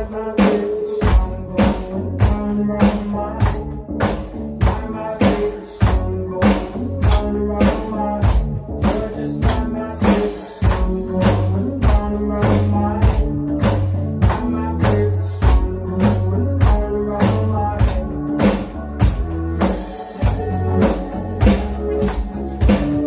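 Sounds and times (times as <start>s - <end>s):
backing music track: 0.0s - 23.0s
electronic drum kit beat: 0.0s - 23.0s.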